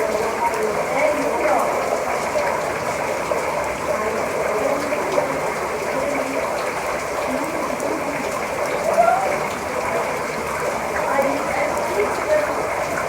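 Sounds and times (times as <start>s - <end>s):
faint voices: 0.0s - 13.0s
heavy rain pouring: 0.0s - 13.0s.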